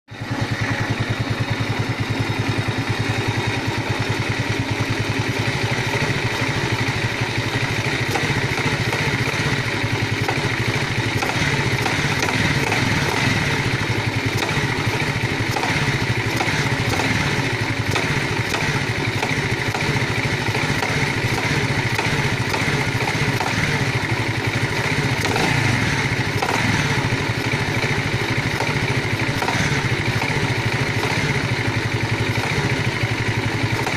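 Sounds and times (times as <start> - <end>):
engine knocking: 0.1 - 33.9
engine running steadily: 0.1 - 33.9.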